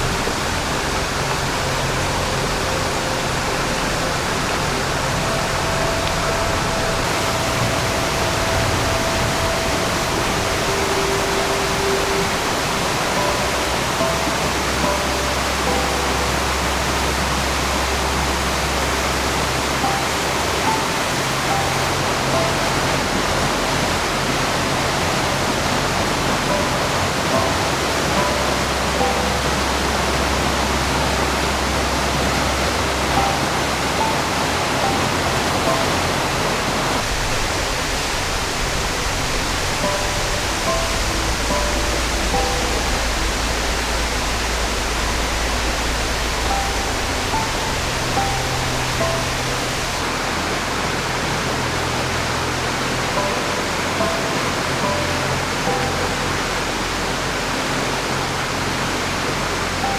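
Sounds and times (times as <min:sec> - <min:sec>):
rushing mountain stream: 0:00.0 - 0:59.9
soft background music: 0:00.0 - 0:59.9.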